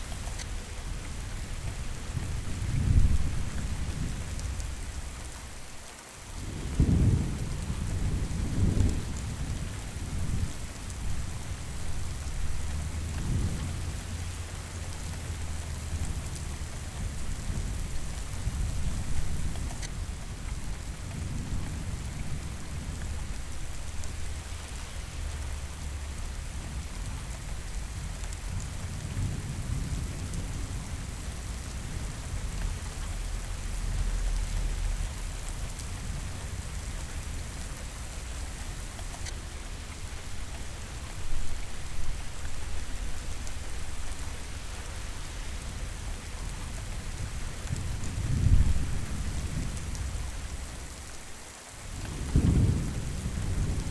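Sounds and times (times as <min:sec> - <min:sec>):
thunder rumbling: 0:00.0 - 0:05.4, 0:06.4 - 0:51.2, 0:51.8 - 0:53.9
steady rain: 0:00.0 - 0:53.9.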